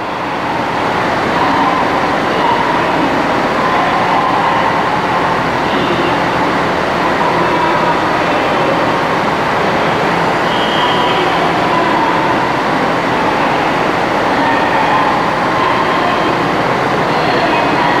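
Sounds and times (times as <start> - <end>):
diesel train engine and wheels: 0.0 - 18.0.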